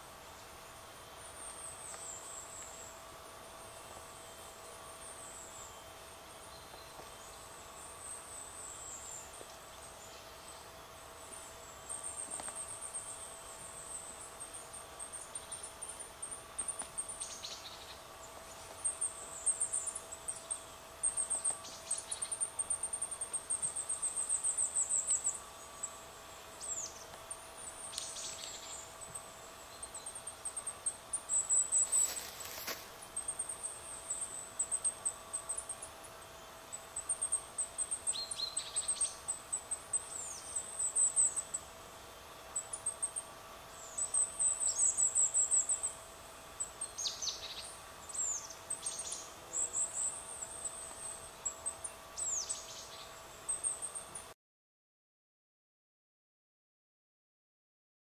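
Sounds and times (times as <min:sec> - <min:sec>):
small birds chirping and trilling: 0:00.0 - 0:54.3
faint steady hum: 0:00.0 - 0:54.4.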